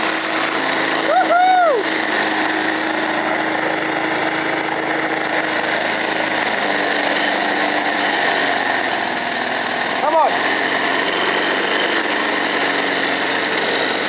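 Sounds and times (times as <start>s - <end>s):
lawnmower engine running: 0.0s - 1.1s, 1.9s - 14.0s.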